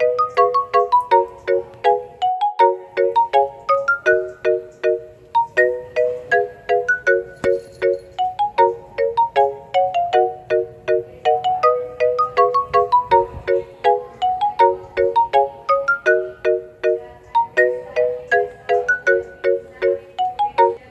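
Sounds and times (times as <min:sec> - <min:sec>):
marimba-like ringtone melody: 0:00.0 - 0:20.9.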